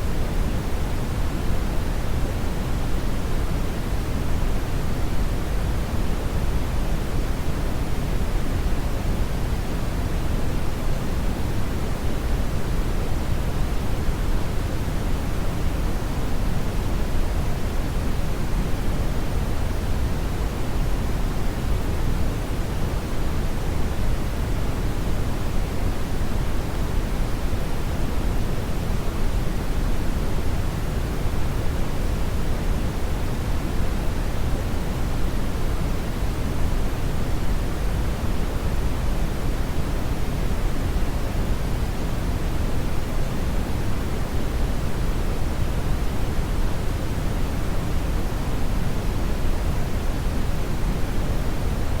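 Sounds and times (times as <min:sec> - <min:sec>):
brown noise hiss: 0:00.0 - 0:52.0.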